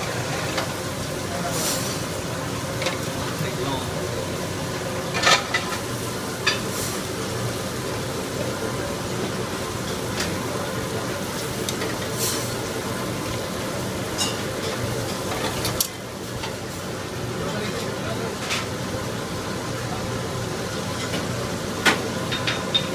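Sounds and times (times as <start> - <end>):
kitchen drone: 0.0 - 22.9.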